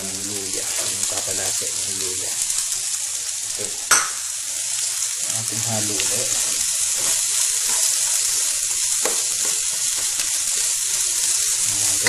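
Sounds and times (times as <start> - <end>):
ginger and onion sizzling in oil: 0.0 - 12.0.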